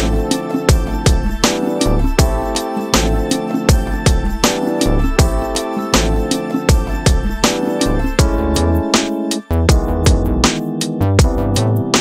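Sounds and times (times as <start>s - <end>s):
deep drum beat: 0.0s - 8.9s, 9.6s - 10.6s, 11.2s - 12.0s
sustained music chords: 0.0s - 12.0s.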